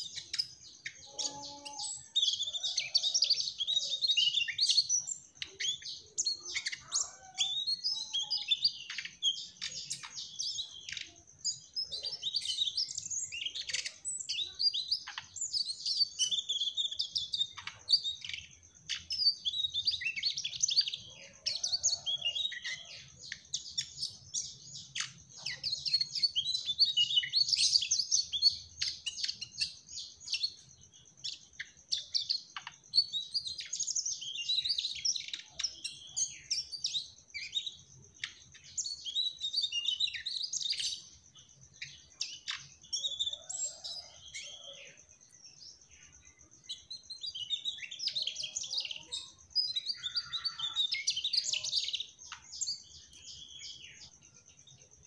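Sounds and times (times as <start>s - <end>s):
flycatcher song with high chirps: 0.0s - 55.0s.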